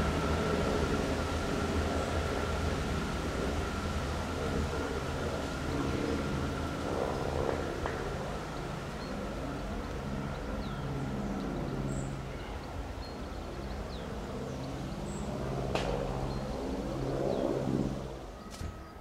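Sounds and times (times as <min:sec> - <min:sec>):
train engine droning: 0:00.0 - 0:18.9.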